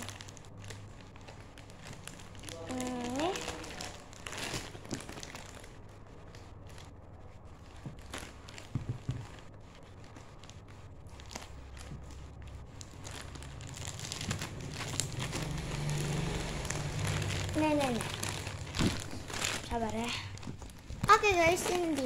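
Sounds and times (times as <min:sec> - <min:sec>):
plastic packaging crinkling: 0:00.0 - 0:22.0.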